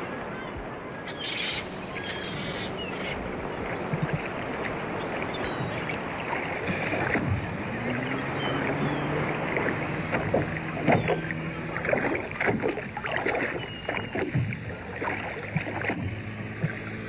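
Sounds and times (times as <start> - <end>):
water noise: 0.0 - 17.0
water splashes: 0.0 - 17.0
boat motor running: 0.5 - 17.0.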